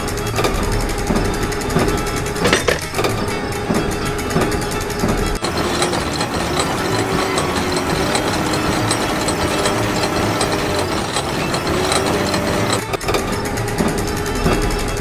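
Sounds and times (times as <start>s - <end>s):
crane hoist clicking and grinding: 0.0s - 15.0s.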